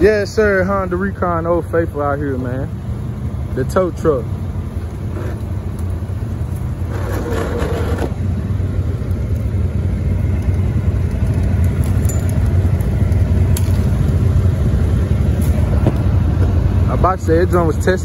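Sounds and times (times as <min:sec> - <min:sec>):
atv engine droning: 0:00.0 - 0:18.0.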